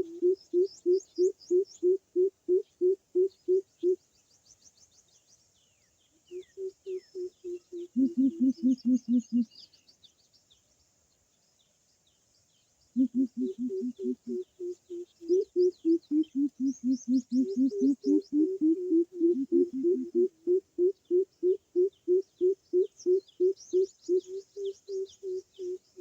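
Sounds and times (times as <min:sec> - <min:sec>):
small birds chirping: 0:00.0 - 0:02.0, 0:02.6 - 0:20.3, 0:20.9 - 0:26.0.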